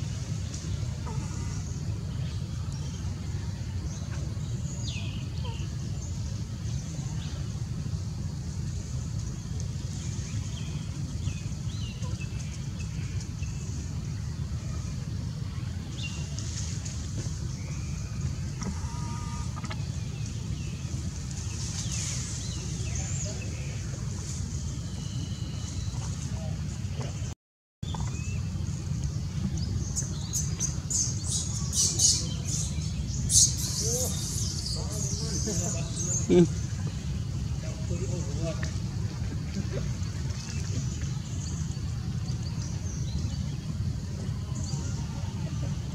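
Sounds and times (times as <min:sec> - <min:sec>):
steady low rumble: 0:00.0 - 0:45.9.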